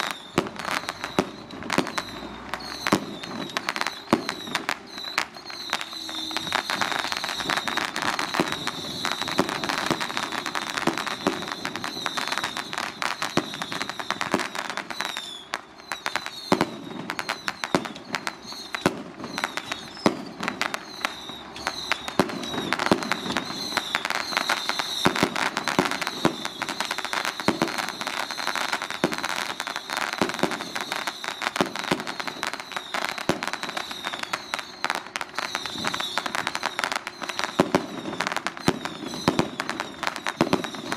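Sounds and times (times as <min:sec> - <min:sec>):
firecrackers popping: 0:00.0 - 0:40.9.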